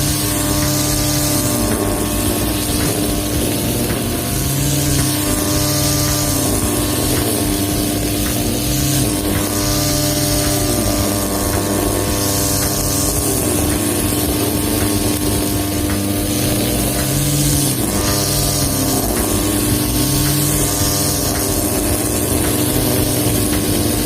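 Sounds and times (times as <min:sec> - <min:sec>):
brush cutter engine high revs: 0:00.0 - 0:24.0
cutter swishing through grass: 0:00.0 - 0:24.0.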